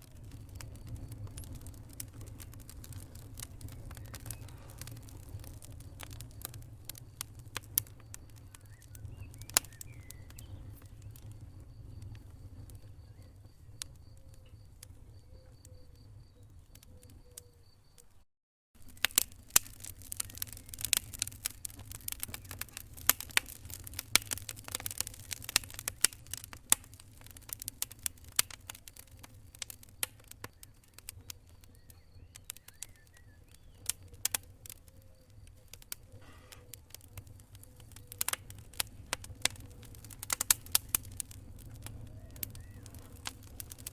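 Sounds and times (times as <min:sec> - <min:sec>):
low rumble of flames: 0:00.0 - 0:18.1, 0:18.8 - 0:43.9
wood fire crackling: 0:00.0 - 0:18.2, 0:18.8 - 0:43.9.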